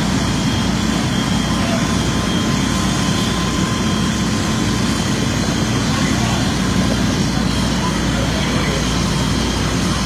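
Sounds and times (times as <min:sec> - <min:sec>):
faint steady whine: 0:00.0 - 0:10.0.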